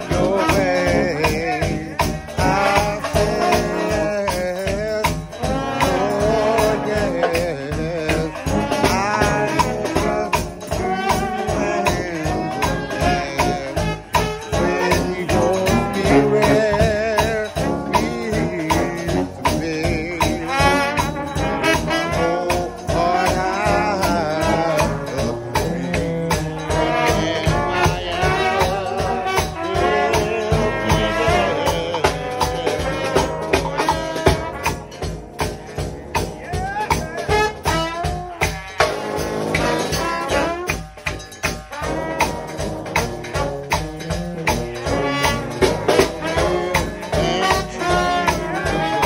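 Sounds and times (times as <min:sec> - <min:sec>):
brass band playing: 0:00.0 - 0:49.0
drum kit beat: 0:00.0 - 0:49.0.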